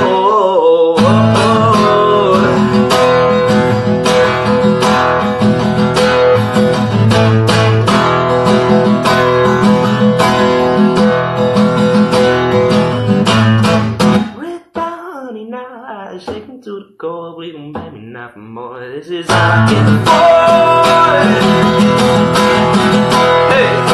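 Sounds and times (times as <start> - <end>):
acoustic guitar strumming: 0.0 - 15.2, 15.9 - 16.8, 17.4 - 23.9.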